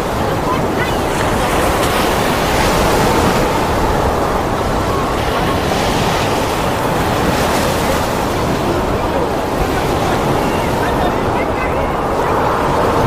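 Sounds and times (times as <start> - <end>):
heavy rain rushing: 0.0 - 13.0
wind buffeting microphone: 0.0 - 13.0.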